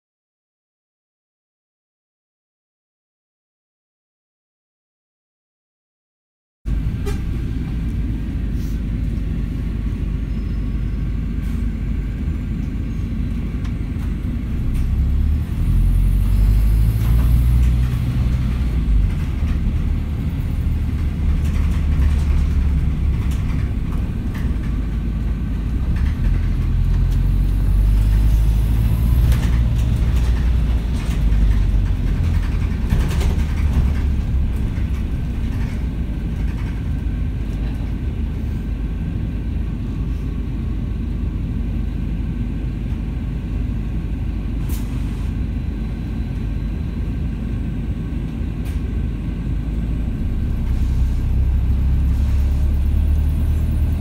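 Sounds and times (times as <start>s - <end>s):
bus drivetrain and road rumble: 6.7s - 54.0s.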